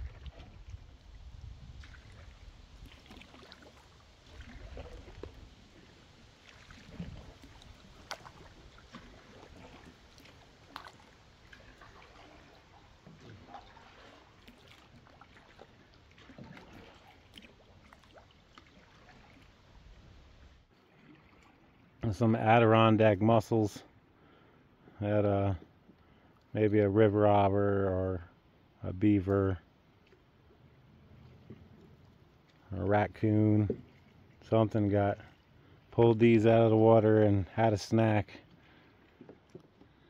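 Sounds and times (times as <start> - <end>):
paddle splashing in water: 0.0 - 22.0, 29.8 - 40.0.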